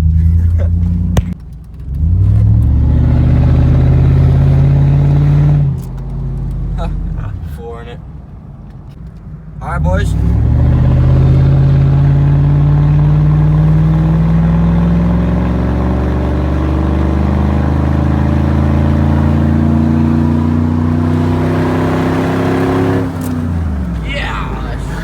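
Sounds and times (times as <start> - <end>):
truck engine accelerating: 0.0 - 25.0.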